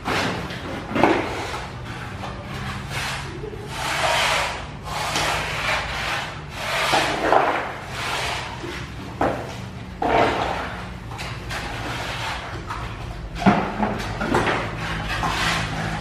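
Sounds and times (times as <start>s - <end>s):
shovel scraping mud on tiles: 0.0s - 16.0s.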